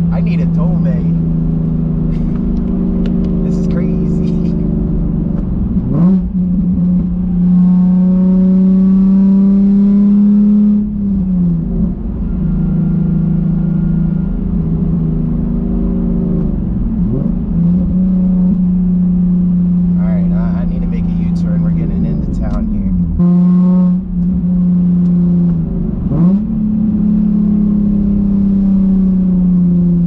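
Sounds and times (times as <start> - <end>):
car engine at high revs: 0.0 - 30.0.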